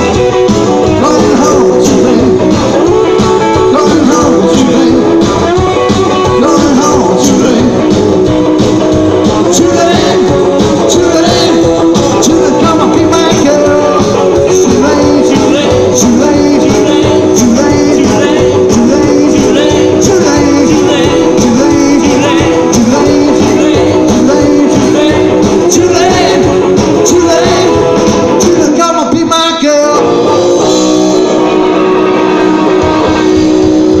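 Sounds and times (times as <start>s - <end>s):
rock and roll band playing: 0.0s - 34.0s.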